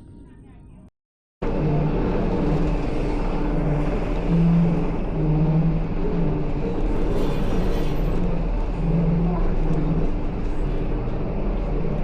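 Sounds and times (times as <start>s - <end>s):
vehicle engine humming: 1.4s - 12.0s.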